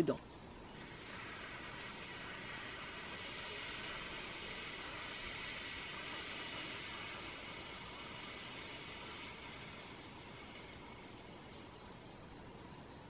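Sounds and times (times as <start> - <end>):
woman hissing breath through teeth: 0.7 - 12.2.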